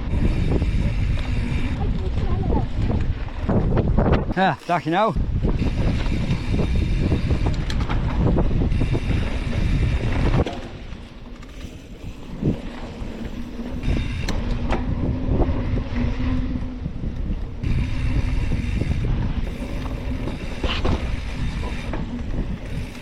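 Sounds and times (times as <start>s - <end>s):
bicycle tyres on rough trail: 0.0s - 23.0s
bike rattling: 0.0s - 23.0s
wind buffeting microphone: 0.0s - 23.0s.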